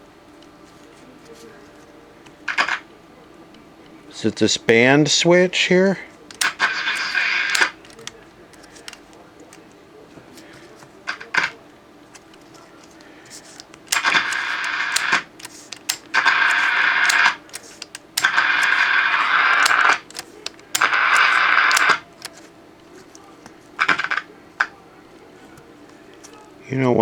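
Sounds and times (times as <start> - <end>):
hissy radio sound cutting in and out: 0.0 - 27.0
clicks and crackles: 0.3 - 4.0, 6.1 - 26.6.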